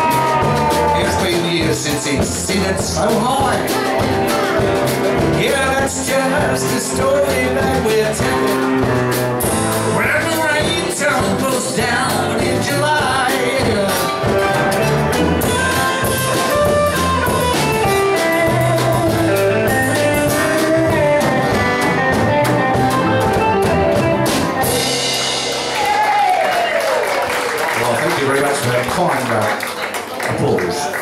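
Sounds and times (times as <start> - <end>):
strummed acoustic guitar: 0.0 - 25.5
electric lead guitar: 0.0 - 26.5
drum kit beat: 0.0 - 29.1.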